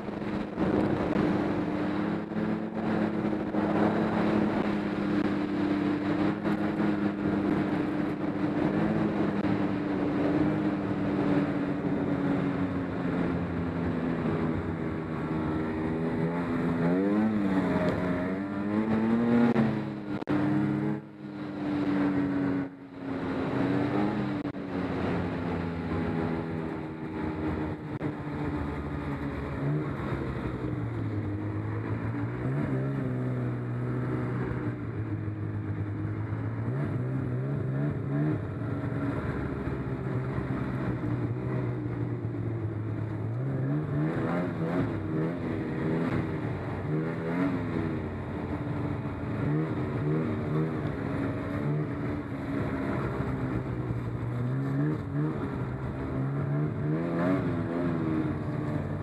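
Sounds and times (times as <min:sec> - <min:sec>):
snowmobile engine revving: 0:00.0 - 0:42.0, 0:42.7 - 0:59.0
track and snow noise: 0:00.0 - 0:59.0.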